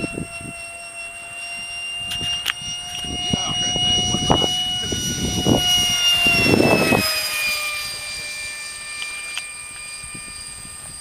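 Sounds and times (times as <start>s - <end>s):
model jet fan whining: 0.0s - 11.0s.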